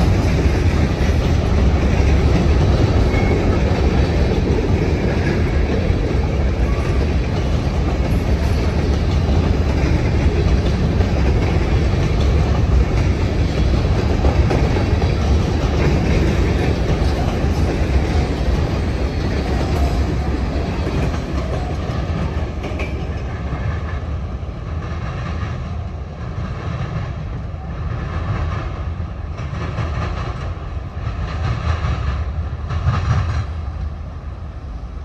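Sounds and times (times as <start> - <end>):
train wheels clicking over rail joints: 0.0 - 33.8
low train rumble: 0.0 - 35.0.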